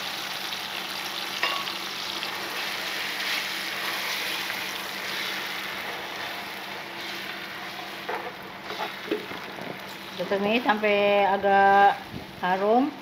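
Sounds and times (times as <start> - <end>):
paste sizzling in oil: 0.0 - 10.9.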